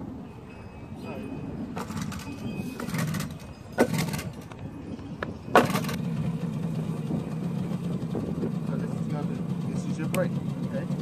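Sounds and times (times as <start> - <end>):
quad bike engine idling: 1.8 - 11.0.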